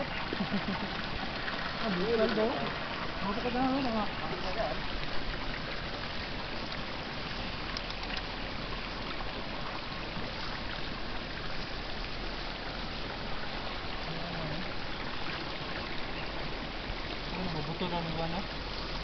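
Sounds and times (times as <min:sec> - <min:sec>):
hot spring water bubbling: 0:00.0 - 0:19.0.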